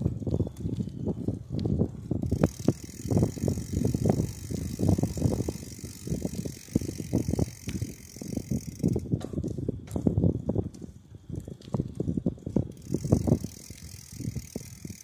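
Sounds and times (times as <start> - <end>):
bicycle rumbling and rattling: 0.0 - 15.0.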